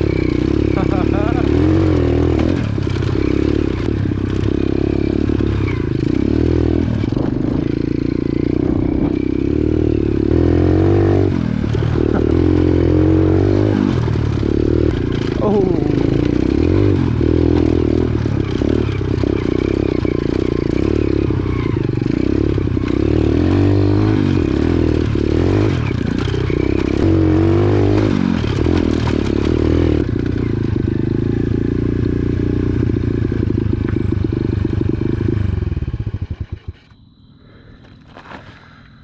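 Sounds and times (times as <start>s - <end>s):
pit bike engine running: 0.0s - 37.0s.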